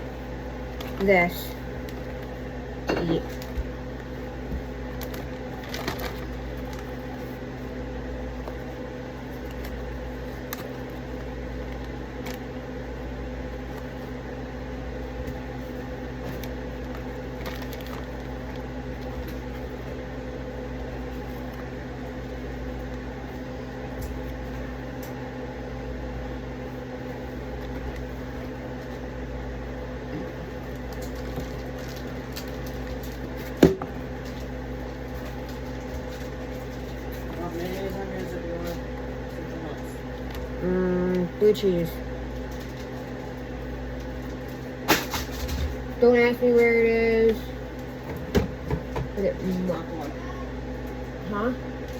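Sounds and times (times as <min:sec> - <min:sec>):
kitchen appliance humming: 0:00.0 - 0:51.9.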